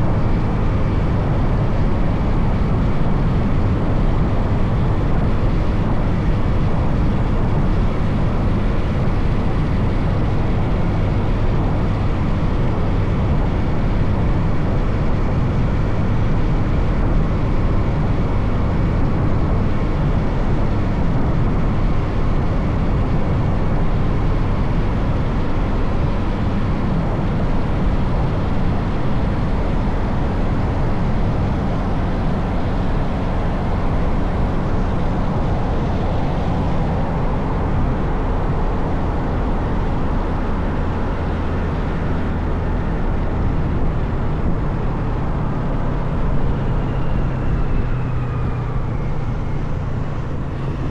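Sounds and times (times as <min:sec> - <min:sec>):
motorcycle engine and road noise: 0:00.0 - 0:50.9.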